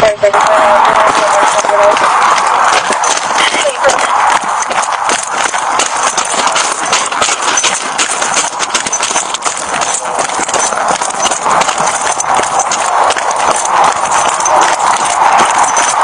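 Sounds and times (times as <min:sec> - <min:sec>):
footsteps crunching on gravel: 0:00.4 - 0:16.0.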